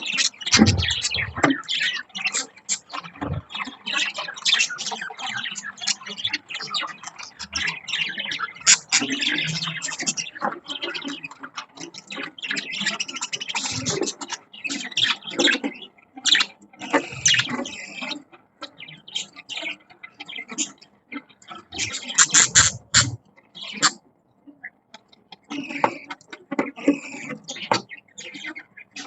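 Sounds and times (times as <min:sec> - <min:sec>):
budgerigars chirping and chattering: 0:00.0 - 0:29.0.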